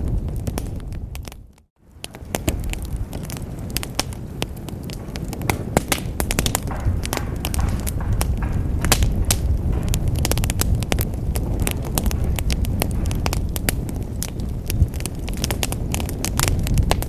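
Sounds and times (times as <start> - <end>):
low rumble of fire: 0.0 - 17.0
wood fire crackling: 0.0 - 17.0.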